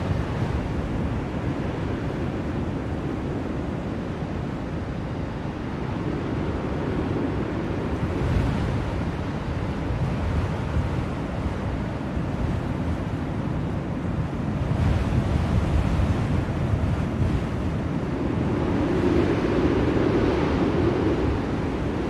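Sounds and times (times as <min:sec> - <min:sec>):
blizzard wind rushing: 0:00.0 - 0:22.0.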